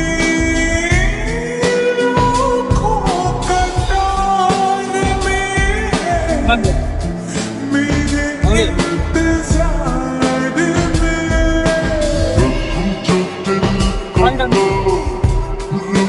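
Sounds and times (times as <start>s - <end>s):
music with singing and beat: 0.0s - 16.0s.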